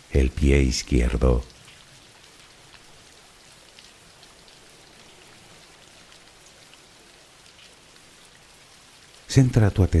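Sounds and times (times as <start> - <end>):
soft rain falling: 0.0 - 10.0.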